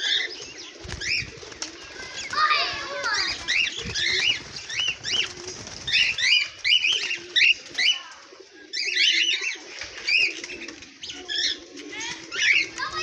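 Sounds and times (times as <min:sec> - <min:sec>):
pet birds chirping: 0:00.0 - 0:13.0.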